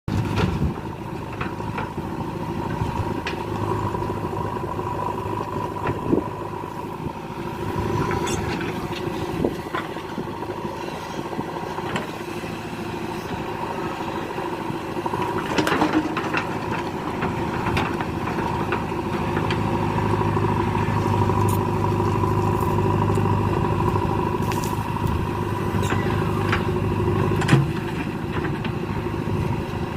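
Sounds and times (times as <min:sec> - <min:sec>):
diesel engine running under load: 0:00.1 - 0:29.9.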